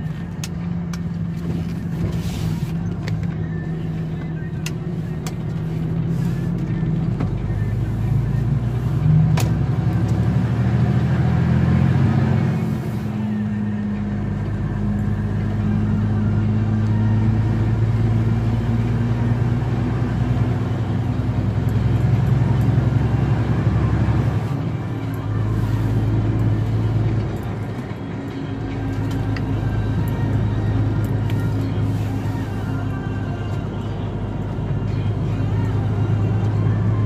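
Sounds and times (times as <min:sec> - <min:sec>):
road noise: 0:00.0 - 0:37.0
truck engine drone: 0:00.0 - 0:37.0.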